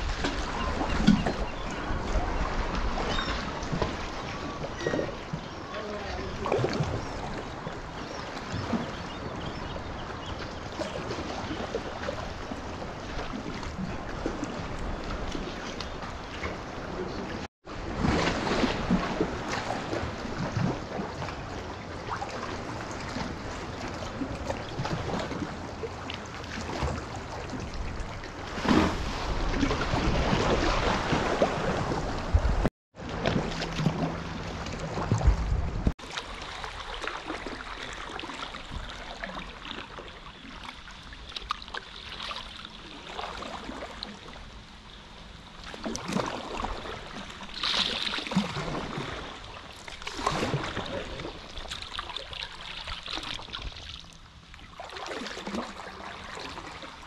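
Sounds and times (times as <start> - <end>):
paddle splashing water: 0.0 - 57.0
water lapping against rocks: 0.0 - 57.0.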